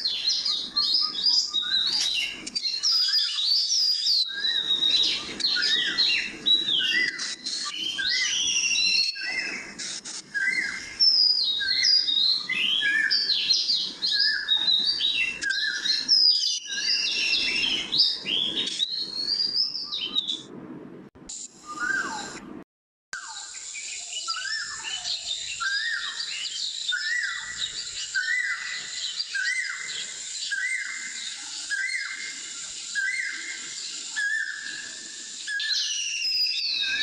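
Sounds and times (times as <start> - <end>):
birds chirping and twittering: 0.0 - 22.4, 23.2 - 37.0.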